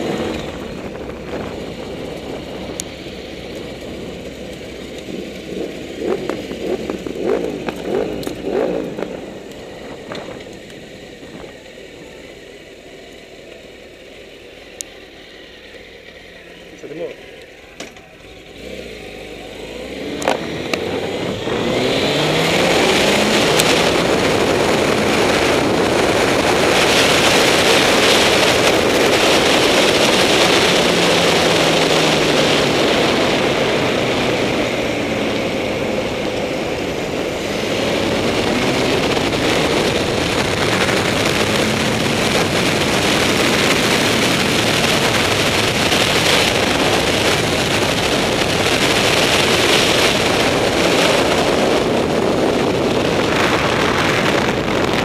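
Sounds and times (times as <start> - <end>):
motorbike engine accelerating: 0.0 - 55.0.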